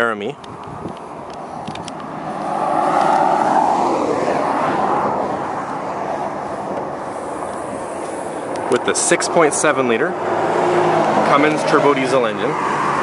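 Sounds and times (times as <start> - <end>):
vehicle passing by: 1.1 - 13.0.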